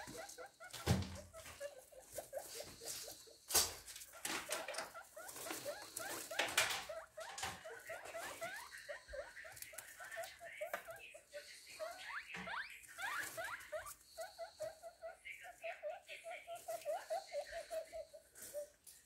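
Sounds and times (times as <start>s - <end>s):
guinea pigs squeaking: 0.0s - 19.0s.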